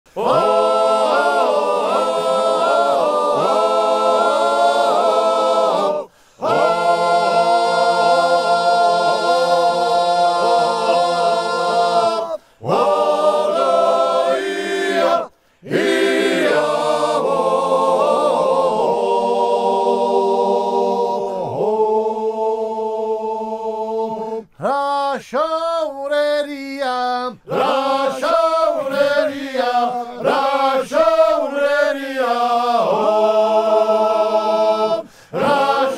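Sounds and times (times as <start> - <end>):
male choir singing a cappella: 0.1 - 35.9.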